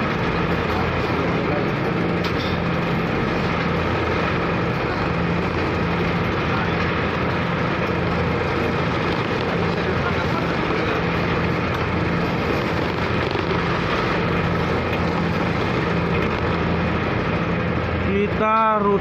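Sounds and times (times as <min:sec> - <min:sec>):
pulsing low hum: 0:00.0 - 0:19.0
ship engine running: 0:00.0 - 0:19.0.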